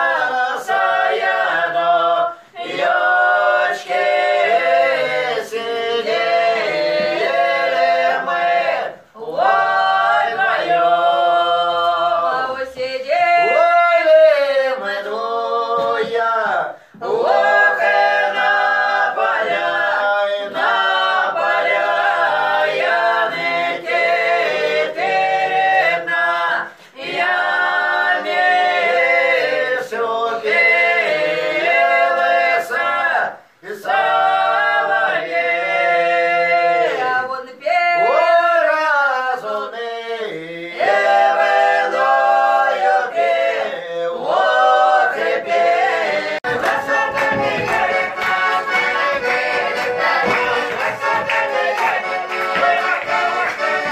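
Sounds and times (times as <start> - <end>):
unaccompanied choir singing: 0.0 - 53.9.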